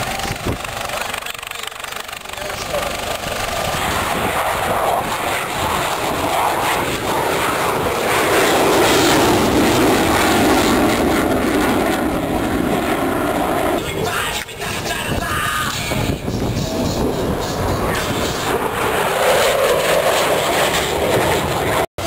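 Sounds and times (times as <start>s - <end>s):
airplane engine roar: 0.0s - 22.0s.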